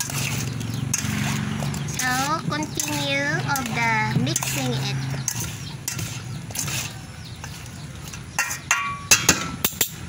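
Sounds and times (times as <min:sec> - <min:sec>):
spoon scraping metal bowl: 0:00.0 - 0:09.0.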